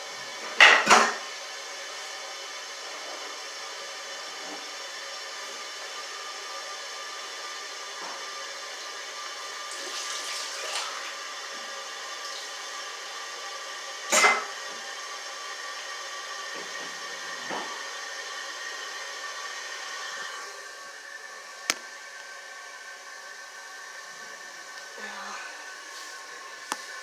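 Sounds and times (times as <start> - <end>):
toilet tank refilling hiss: 0.0 - 27.0.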